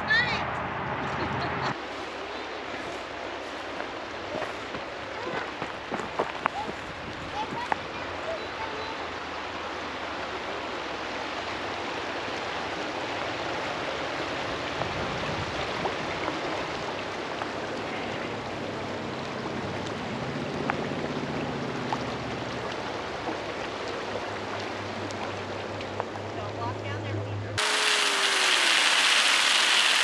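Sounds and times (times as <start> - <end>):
river water rushing: 1.7 - 30.0.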